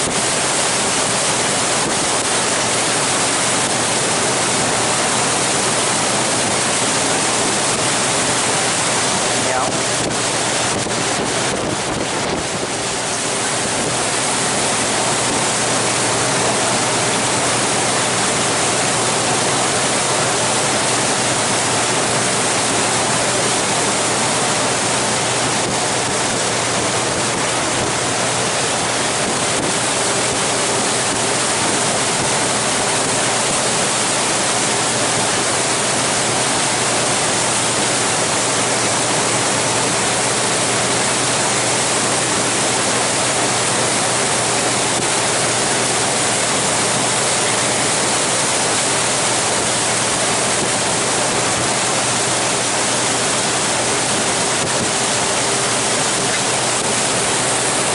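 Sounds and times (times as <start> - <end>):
wind and water rushing past boat: 0.0 - 57.9.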